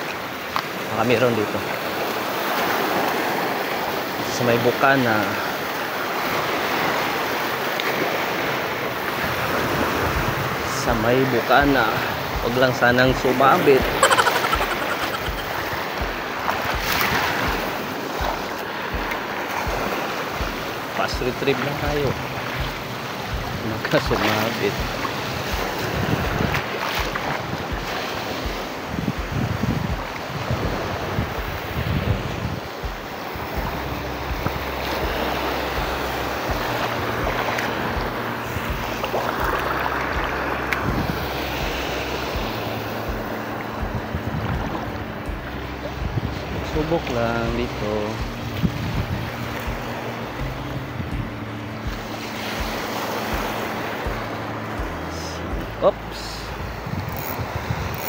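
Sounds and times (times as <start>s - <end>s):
shallow water lapping: 0.0s - 58.0s
wind buffeting microphone: 8.3s - 55.8s, 56.5s - 58.0s.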